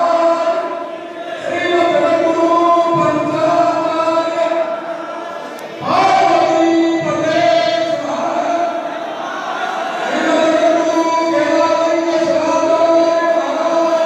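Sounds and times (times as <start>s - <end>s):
group chanting in unison: 0.0s - 2.2s, 4.2s - 14.0s.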